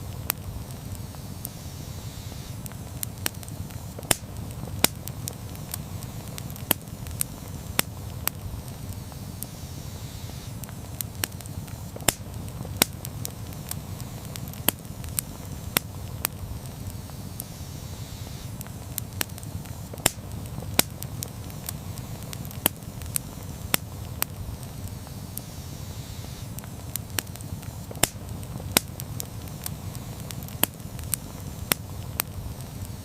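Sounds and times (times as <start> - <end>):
campfire crackling and popping: 0.0 - 33.0
flames rumbling: 0.0 - 33.0.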